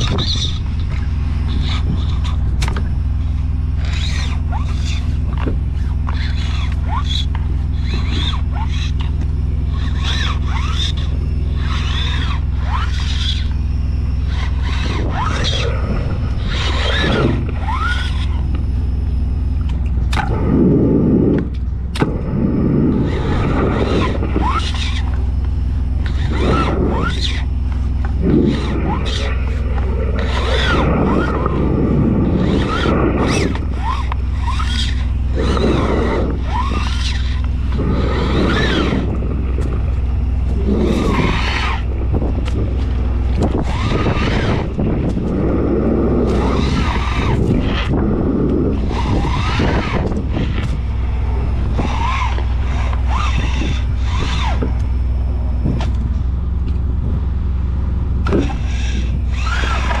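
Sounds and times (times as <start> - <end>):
motor humming: 0.0 - 60.0.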